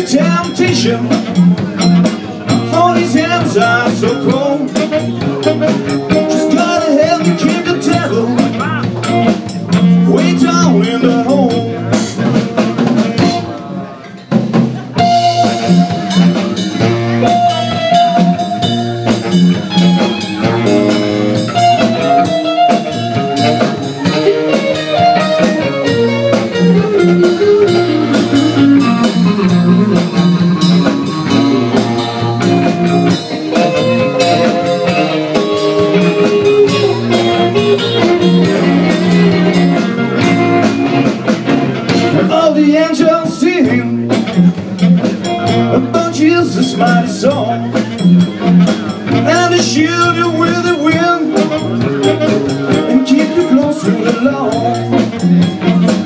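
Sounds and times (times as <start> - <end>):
blues-rock band playing: 0.0 - 56.0
lead guitar bending melody: 0.0 - 56.0.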